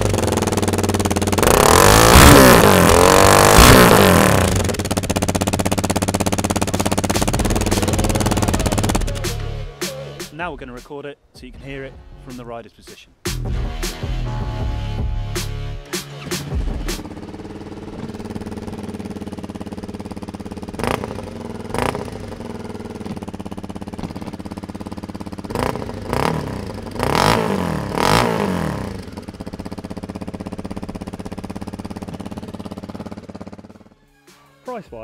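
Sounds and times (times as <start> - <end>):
motorcycle engine idling and revving: 0.0 - 10.8, 13.2 - 34.0.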